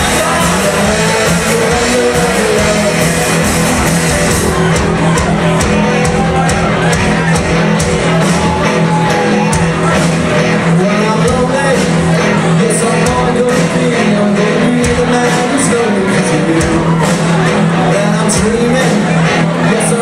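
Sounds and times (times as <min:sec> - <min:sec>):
rock band playing: 0:00.0 - 0:20.0
steady drum beat: 0:00.0 - 0:20.0.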